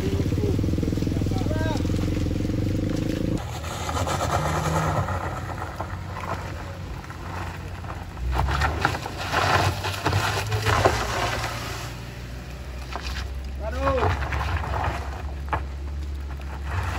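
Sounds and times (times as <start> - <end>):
car engine under load: 0.0 - 16.9
tyres crunching over stones: 0.0 - 16.9.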